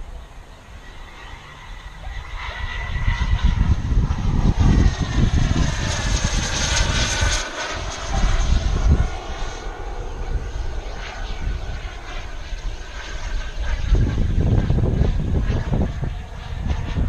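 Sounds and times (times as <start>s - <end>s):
jet turbine whining past: 0.0s - 17.0s
low rumble: 0.0s - 17.0s.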